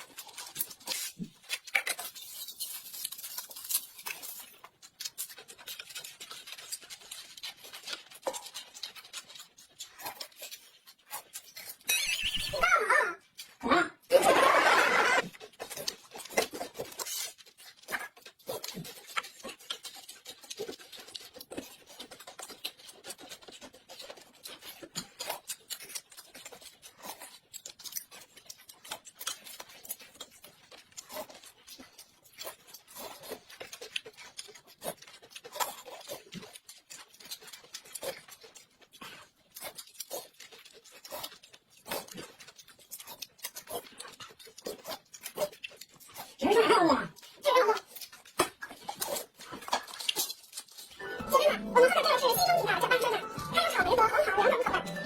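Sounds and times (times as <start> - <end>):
chewing with wet smacks: 0.0 - 12.2, 15.2 - 55.0.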